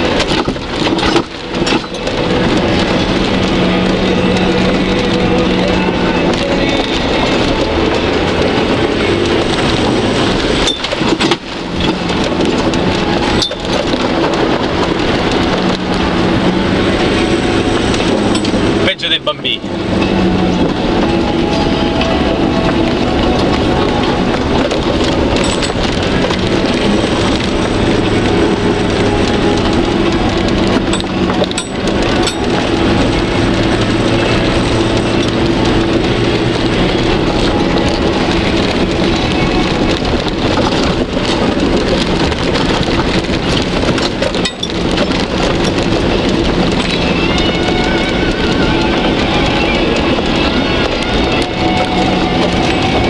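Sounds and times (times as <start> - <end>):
car engine running: 0.0 - 53.0
muddy water spraying against car: 0.0 - 53.0.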